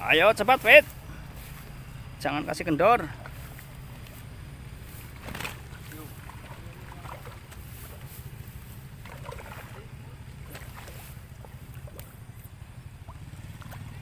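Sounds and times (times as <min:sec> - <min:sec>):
faint voices: 0:00.0 - 0:11.6.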